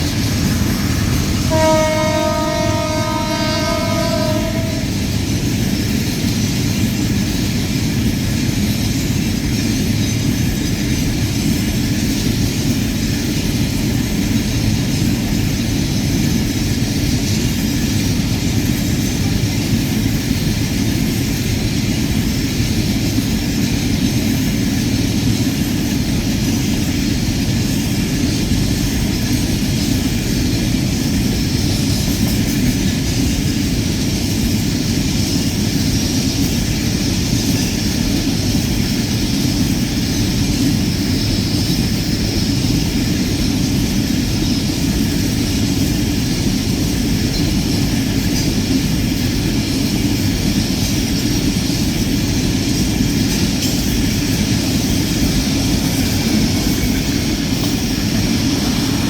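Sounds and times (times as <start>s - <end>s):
rail car rumbling on track: 0.0s - 59.0s.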